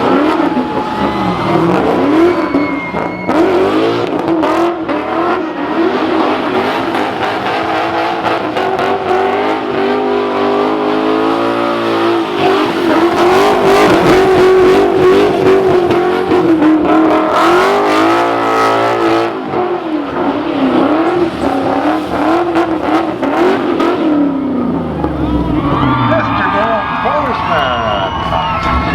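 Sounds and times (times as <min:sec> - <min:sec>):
car engine at high revs: 0:00.0 - 0:27.5.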